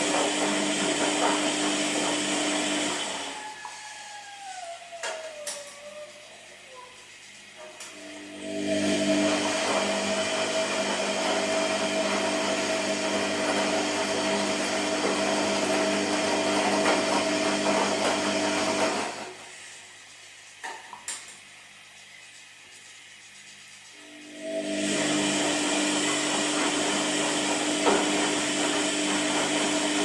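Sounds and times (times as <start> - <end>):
washing machine motor hum: 0.0 - 20.6, 23.9 - 30.0
washing machine noise: 0.0 - 30.0.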